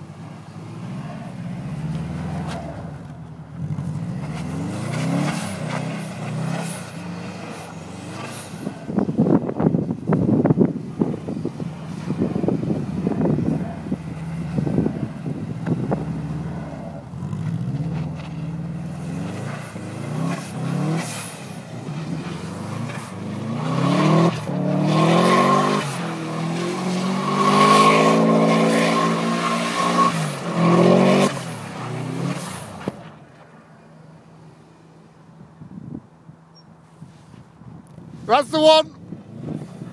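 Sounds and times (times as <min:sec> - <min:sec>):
car engine revving: 0:00.0 - 0:09.5, 0:10.4 - 0:33.2.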